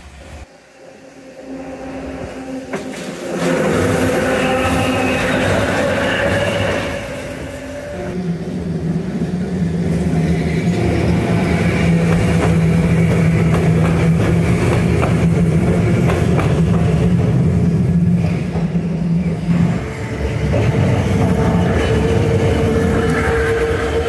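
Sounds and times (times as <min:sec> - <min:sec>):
streetcar motor whine: 0:00.0 - 0:24.0.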